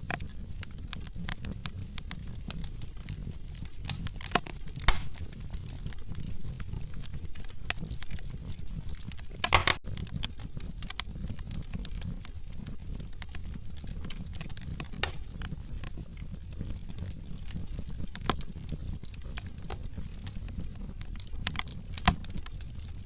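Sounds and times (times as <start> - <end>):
wood fire crackling in a fireplace: 0.0 - 23.0.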